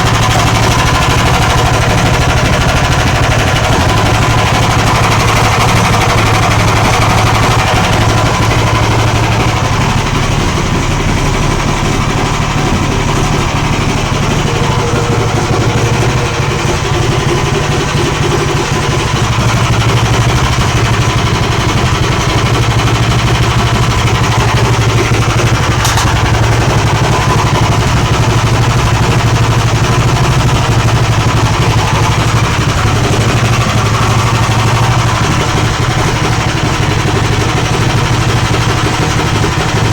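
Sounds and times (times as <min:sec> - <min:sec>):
petrol engine running steadily: 0:00.0 - 0:39.9.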